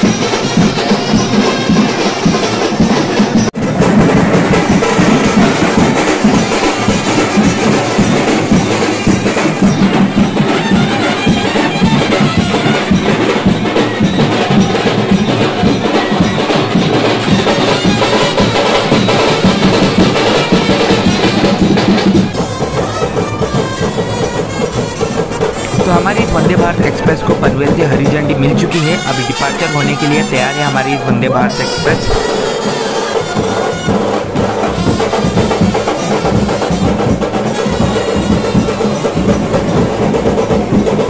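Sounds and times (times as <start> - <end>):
loud drumming with percussion: 0.0 - 41.0.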